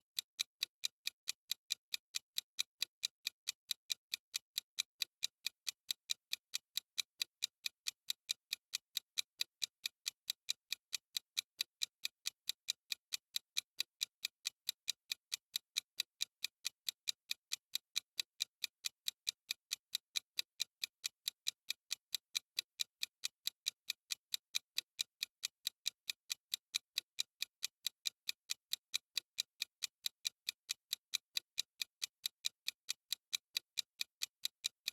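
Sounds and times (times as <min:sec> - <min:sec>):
clock ticking: 0:00.0 - 0:34.9.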